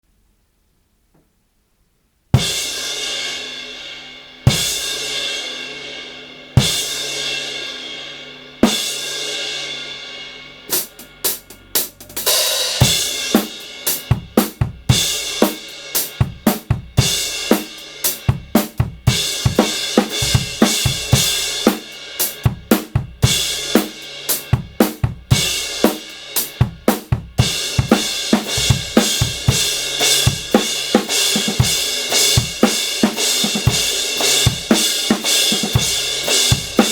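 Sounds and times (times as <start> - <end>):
drum kit beat: 2.4 - 3.7, 4.3 - 36.9.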